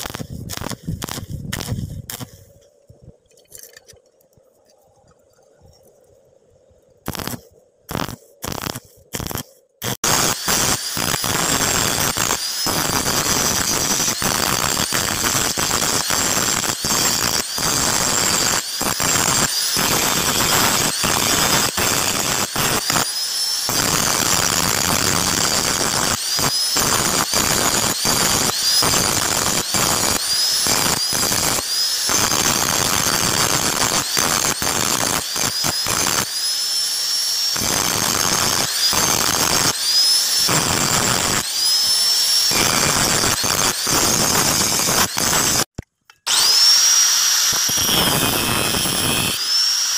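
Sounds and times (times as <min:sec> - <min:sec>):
angle grinder cutting steel: 0:00.0 - 0:02.4, 0:07.1 - 0:49.9.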